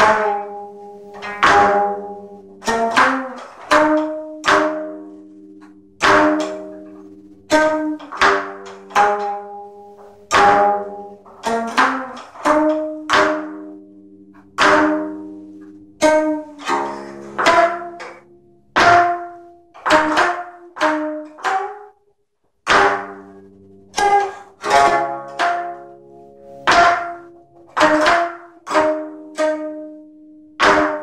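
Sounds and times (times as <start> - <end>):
plucked zither strokes: 0.0 - 22.0, 22.6 - 31.0.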